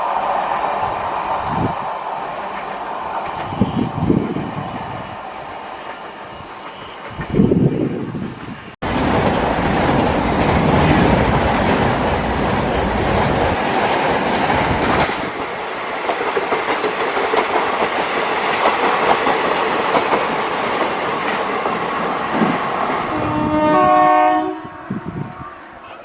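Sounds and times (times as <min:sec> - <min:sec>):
train wheels clicking on rails: 0:00.0 - 0:23.9
heavy low train rumble: 0:00.0 - 0:26.0.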